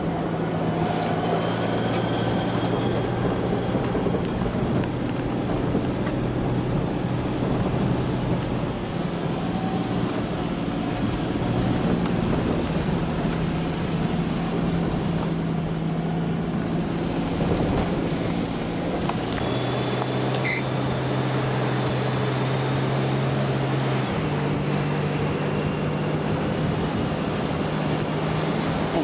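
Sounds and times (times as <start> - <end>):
car engine hum: 0.0 - 29.0
wind noise: 0.0 - 29.0.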